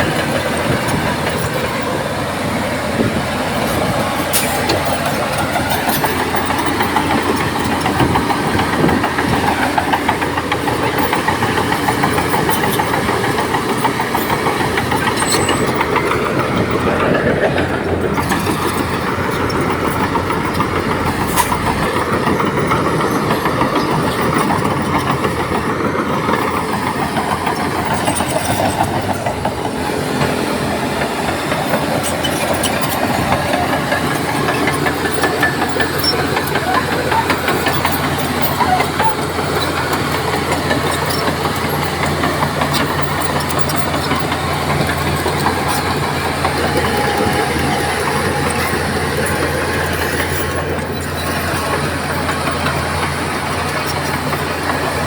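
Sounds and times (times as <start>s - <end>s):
bulldozer diesel engine under load: 0.0s - 55.0s
steel tracks clattering: 0.0s - 55.0s.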